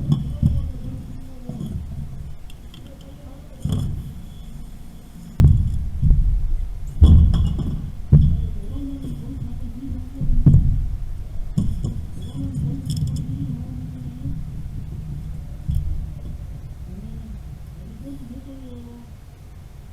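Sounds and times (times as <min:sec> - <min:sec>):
heavy knocks and clanks on piping: 0:00.0 - 0:04.8, 0:05.4 - 0:18.0.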